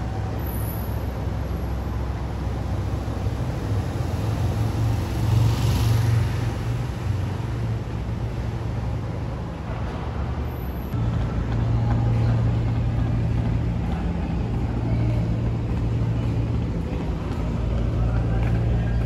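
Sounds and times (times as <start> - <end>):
vehicle engines rumbling: 0.0 - 19.0
vehicle passing: 1.0 - 19.0.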